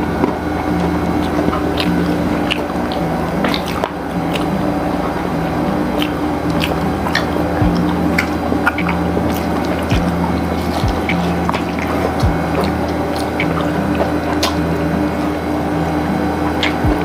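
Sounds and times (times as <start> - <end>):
background music with held notes: 0.0 - 17.0
chewing fried chicken: 0.2 - 5.1, 5.9 - 15.5.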